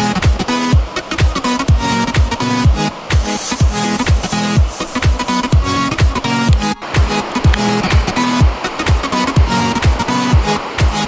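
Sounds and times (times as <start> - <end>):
electronic music with booming kick: 0.0 - 11.0.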